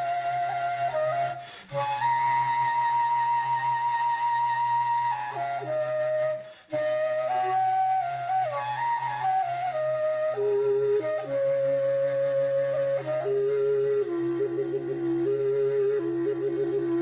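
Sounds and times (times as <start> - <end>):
end-blown flute melody: 0.0 - 17.0.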